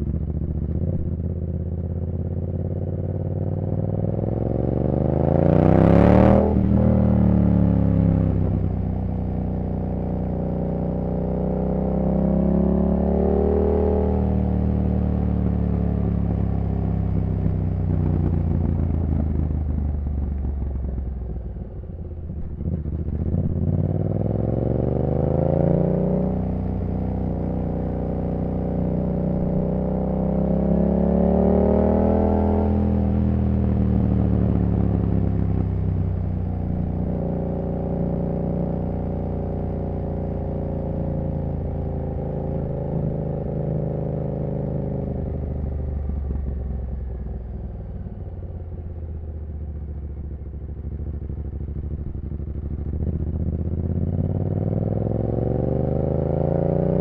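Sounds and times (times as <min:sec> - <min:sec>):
motorcycle engine revving: 0:00.0 - 0:21.1, 0:22.3 - 0:57.0.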